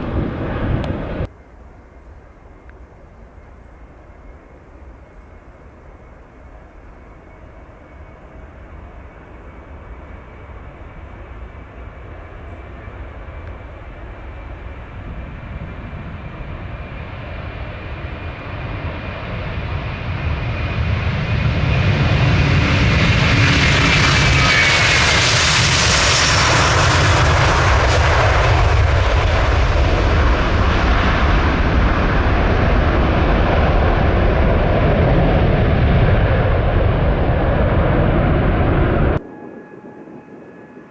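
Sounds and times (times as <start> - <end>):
jet airliner passing: 0.0 - 40.9.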